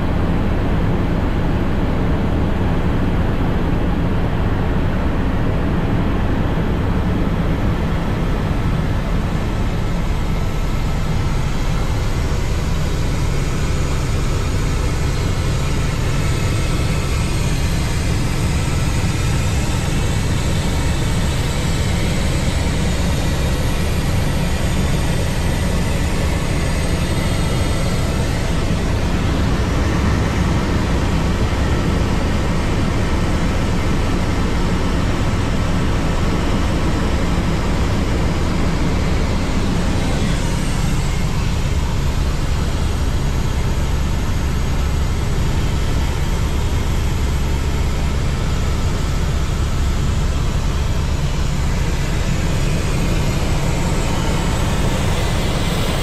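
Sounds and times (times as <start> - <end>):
helicopter rotor rumble: 0.0 - 56.0
high turbine tones: 7.1 - 34.5, 36.2 - 56.0.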